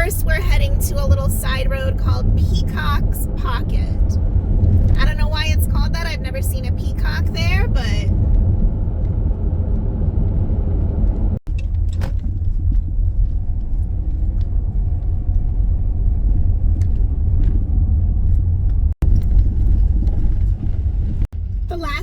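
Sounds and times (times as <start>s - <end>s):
road and engine rumble inside car: 0.0s - 22.0s.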